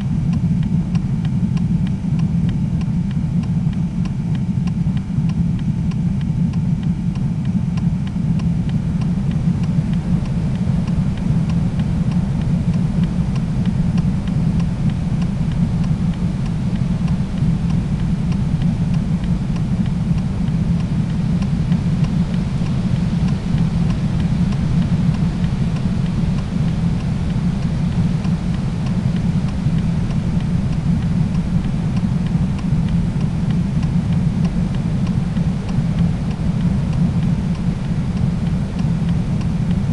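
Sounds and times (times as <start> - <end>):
faint ticking: 0.0 - 39.9.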